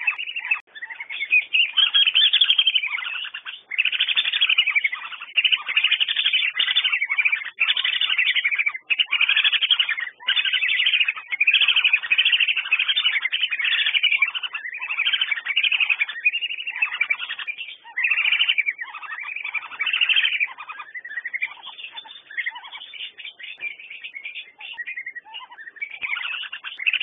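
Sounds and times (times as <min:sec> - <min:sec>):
whistling ducks calling: 0:00.0 - 0:27.0.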